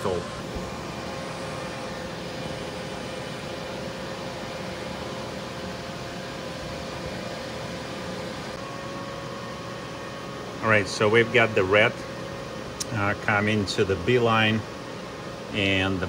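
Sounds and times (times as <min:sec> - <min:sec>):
machinery hum and hiss: 0:00.0 - 0:16.0.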